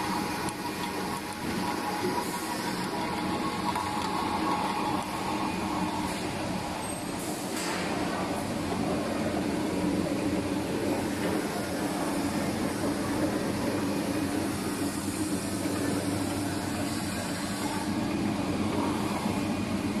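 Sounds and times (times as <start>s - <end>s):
can seaming machine running: 0.0s - 20.0s.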